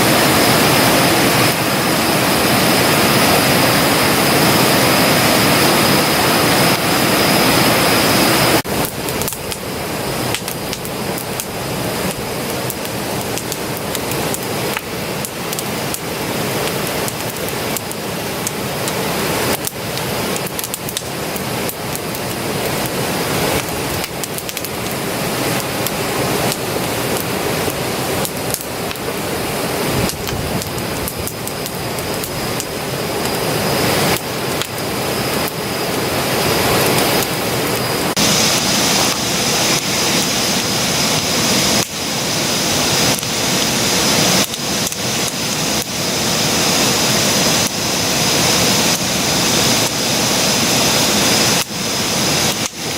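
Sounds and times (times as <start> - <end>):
loud rushing noise with whine: 0.0 - 52.9
campfire crackling and popping: 8.6 - 52.9.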